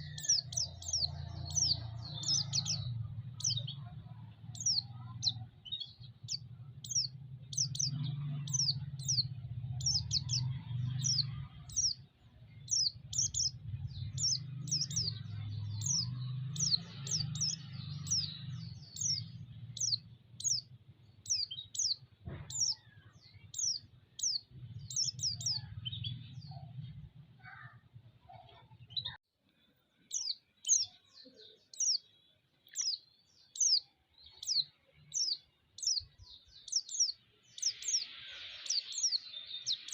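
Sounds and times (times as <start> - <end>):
bird chirping high calls: 0.0 - 29.2, 30.1 - 39.9.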